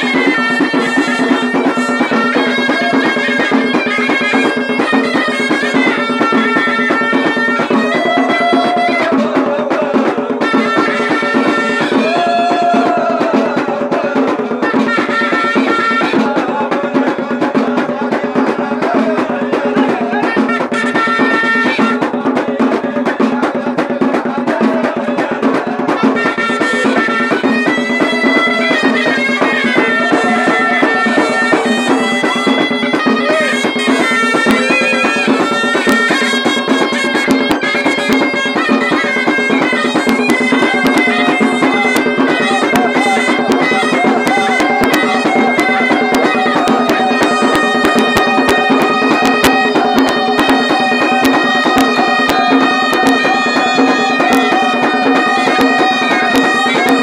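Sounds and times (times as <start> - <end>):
drums beating: 0.0 - 57.0
reedy shawm melody: 0.0 - 57.0.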